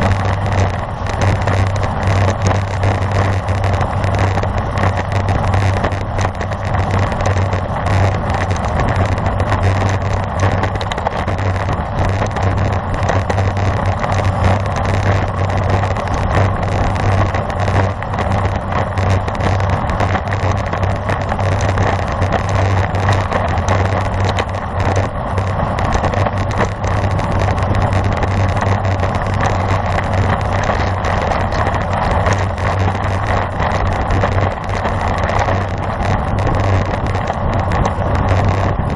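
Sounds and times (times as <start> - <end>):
tyre and road rumble: 0.0 - 38.9
wind buffeting microphone: 0.0 - 38.9.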